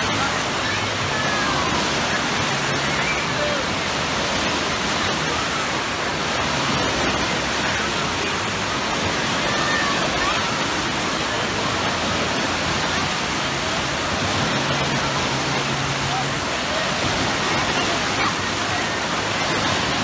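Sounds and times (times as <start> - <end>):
distant voices: 0.0 - 20.0
waves breaking in pool: 0.0 - 20.0.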